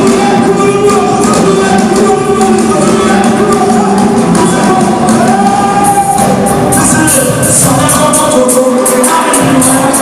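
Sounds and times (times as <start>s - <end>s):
gospel band playing: 0.0s - 10.0s
percussion hits: 0.0s - 10.0s
voices singing together: 0.0s - 10.0s.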